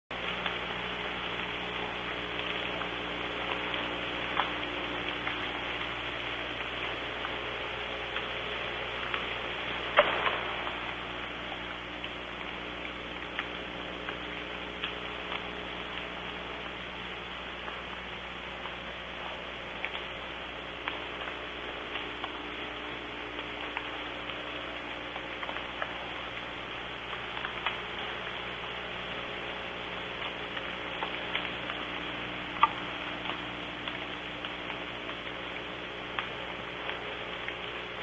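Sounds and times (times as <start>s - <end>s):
rain on a roof: 0.1s - 38.0s
raindrop ticks: 0.1s - 38.0s.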